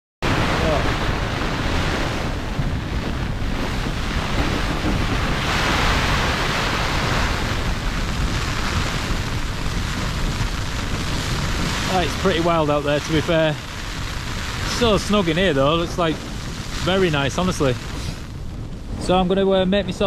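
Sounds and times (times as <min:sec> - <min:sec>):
storm wind gusting against tent: 0:00.2 - 0:20.0
wind rumble on microphone: 0:00.2 - 0:20.0.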